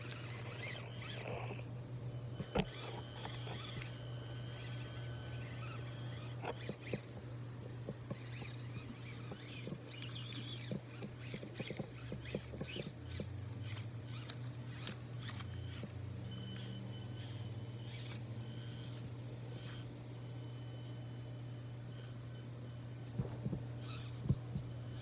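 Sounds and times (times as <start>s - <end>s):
small electric motor humming: 0.0s - 25.0s.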